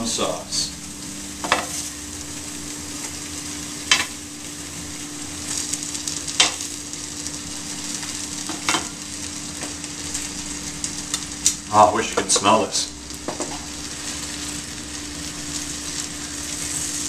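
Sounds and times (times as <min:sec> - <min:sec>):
pineapple sizzling in a pan: 0:00.0 - 0:17.0.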